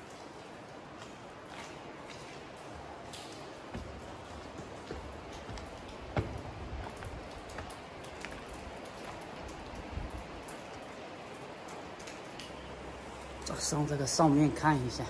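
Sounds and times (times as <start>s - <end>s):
drips and light taps: 0.0s - 15.0s
steady rain: 0.0s - 15.0s.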